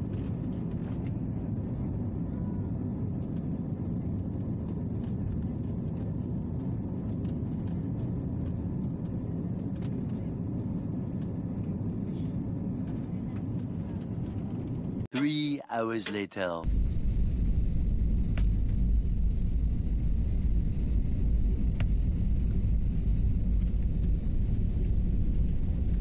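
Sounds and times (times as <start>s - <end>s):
airliner cabin drone: 0.0s - 15.2s, 16.0s - 26.0s.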